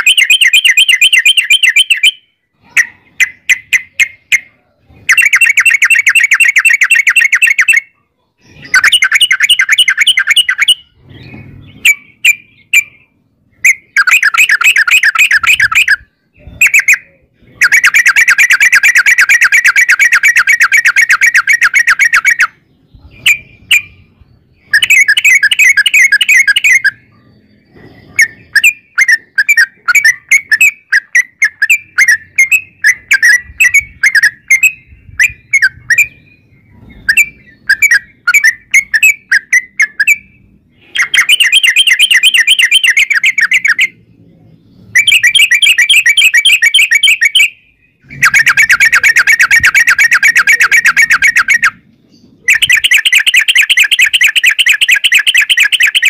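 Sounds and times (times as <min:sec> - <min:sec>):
bulbul chattering song: 0:00.0 - 0:56.0.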